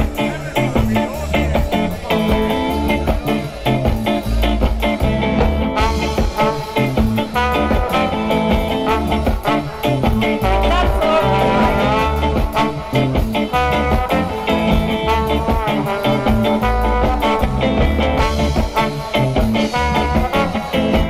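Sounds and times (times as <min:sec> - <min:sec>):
live band playing instrumental: 0:00.0 - 0:21.0.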